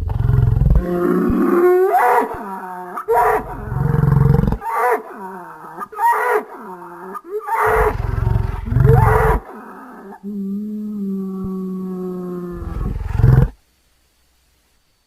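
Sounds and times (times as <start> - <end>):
bellowing creature calls: 0.8 - 13.5.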